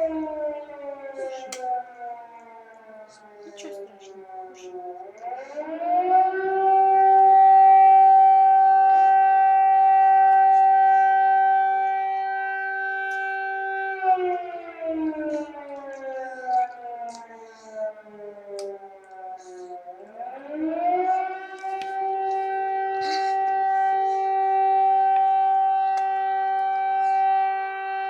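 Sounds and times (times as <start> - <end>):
air raid siren wailing: 0.0 - 28.0.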